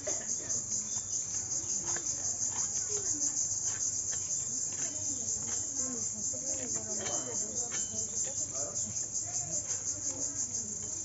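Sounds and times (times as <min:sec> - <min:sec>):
faint distant voices: 0:00.0 - 0:11.0
insects chorus: 0:00.0 - 0:11.0.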